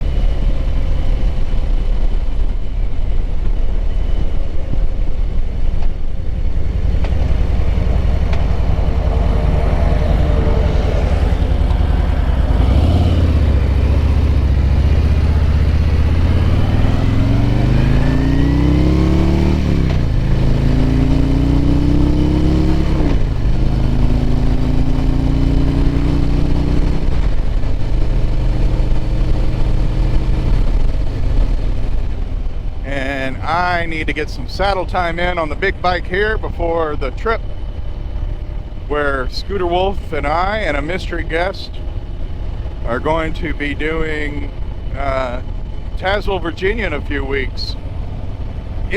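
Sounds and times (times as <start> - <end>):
motorcycle engine accelerating: 0.0 - 48.9
steady low rumble: 0.0 - 48.9.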